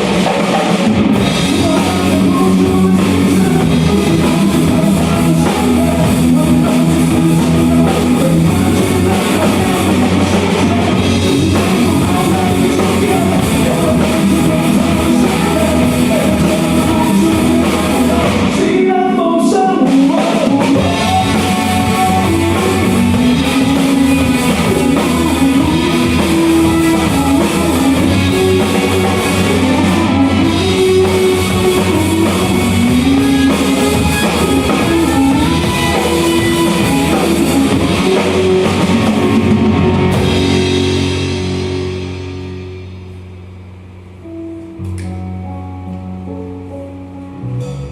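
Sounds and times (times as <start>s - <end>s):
drum kit: 0.0s - 47.9s
electric guitar melody: 0.0s - 47.9s.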